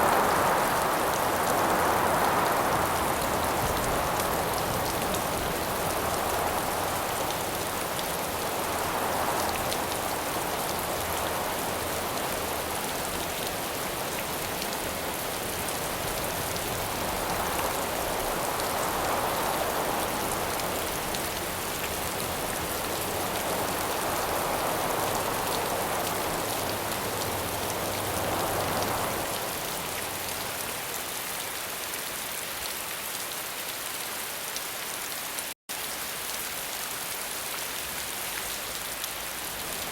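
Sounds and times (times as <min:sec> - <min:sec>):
steady rain falling: 0:00.0 - 0:39.9
wind: 0:00.0 - 0:39.9.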